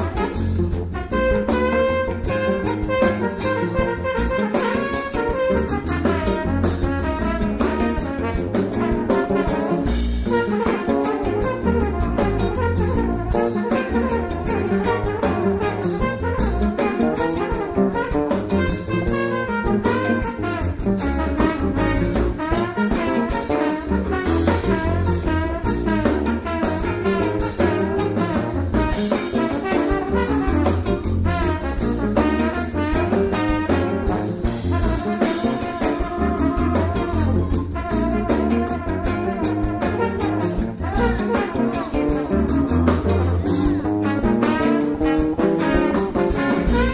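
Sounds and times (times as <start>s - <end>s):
funk band playing: 0.0s - 46.9s
trombone solo: 0.0s - 46.9s.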